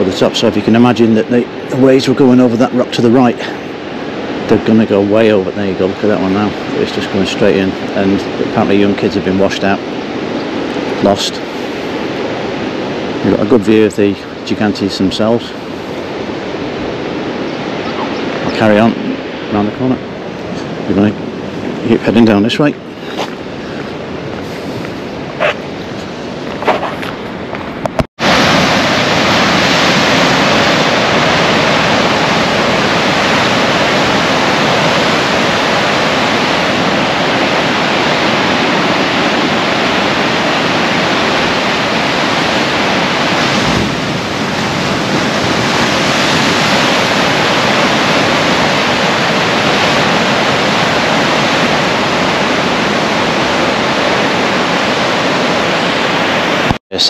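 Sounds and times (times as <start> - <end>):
sea surf breaking on rocks: 0.0 - 56.8.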